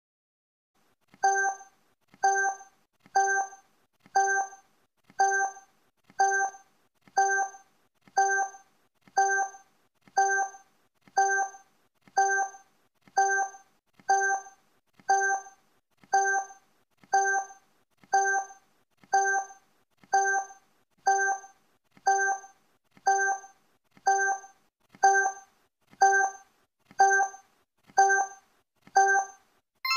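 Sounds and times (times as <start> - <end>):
electronic timer blips: 1.1 - 29.9.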